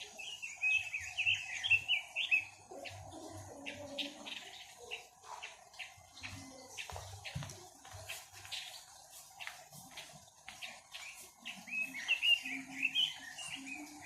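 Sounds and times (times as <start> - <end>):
songbird warbling chirps: 0.0 - 14.0.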